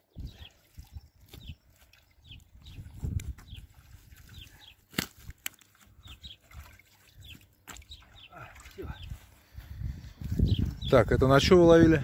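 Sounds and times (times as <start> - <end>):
bird chirping: 0.0 - 4.9, 5.9 - 11.3.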